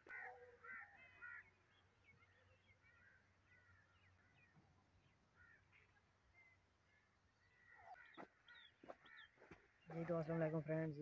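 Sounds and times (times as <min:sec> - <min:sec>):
faint bird calls: 0:00.0 - 0:10.1.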